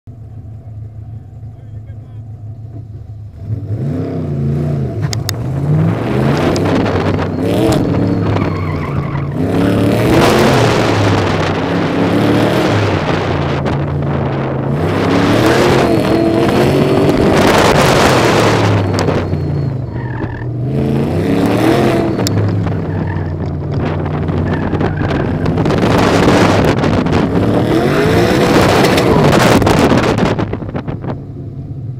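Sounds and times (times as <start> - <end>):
wind and road noise: 0.1 - 31.9
car engine revving: 0.2 - 31.9.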